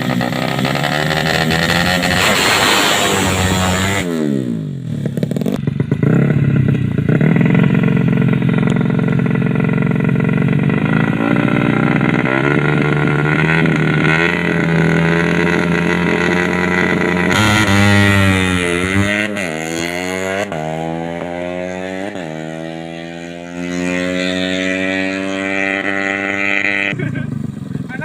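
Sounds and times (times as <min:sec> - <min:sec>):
motorcycle engine revving loudly: 0:00.0 - 0:28.0.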